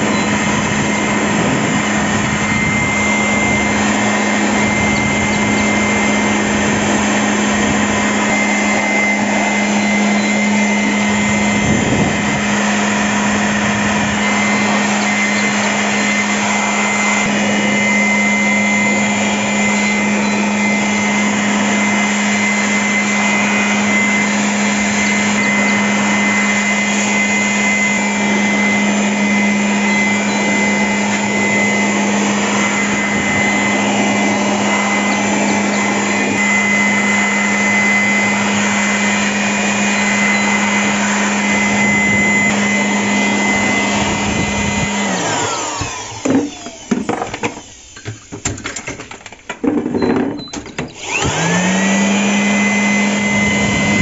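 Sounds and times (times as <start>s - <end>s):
low motor hum with whine: 0.0s - 48.3s
electric air blower rushing air: 0.0s - 48.4s, 50.7s - 54.0s.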